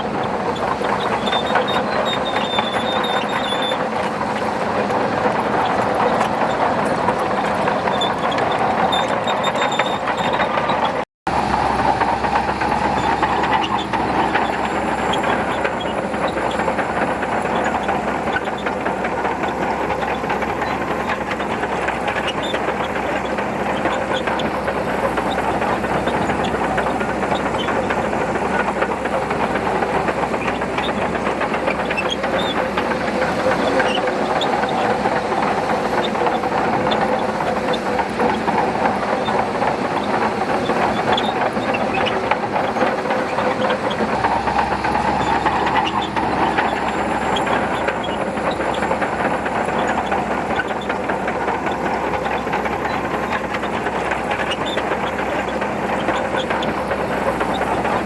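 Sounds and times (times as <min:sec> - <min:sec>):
bulldozer diesel engine under load: 0:00.0 - 0:58.0
steel tracks clanking: 0:00.0 - 0:58.0.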